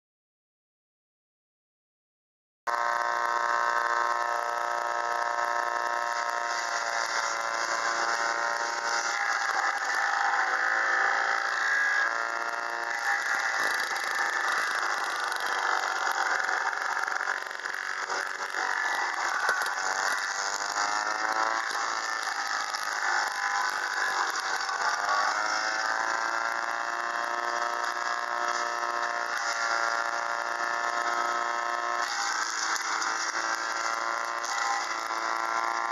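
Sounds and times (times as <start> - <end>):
garden tractor engine: 2.7 - 35.9
wood chipper rushing: 2.7 - 35.9.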